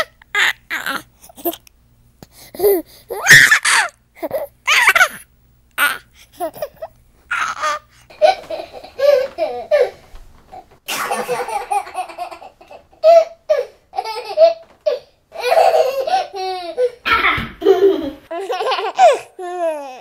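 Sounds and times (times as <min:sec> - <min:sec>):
baby laughing: 0:00.0 - 0:01.7, 0:02.6 - 0:10.0, 0:10.9 - 0:20.0.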